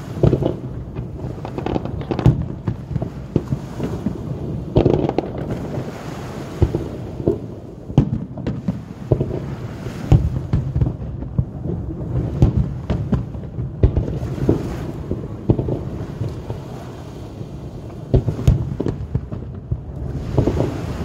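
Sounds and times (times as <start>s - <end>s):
fireworks booming: 0.0s - 21.0s.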